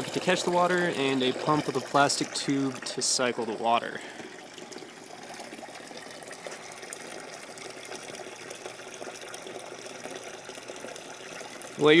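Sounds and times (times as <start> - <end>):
water pouring into bucket: 0.0 - 12.0.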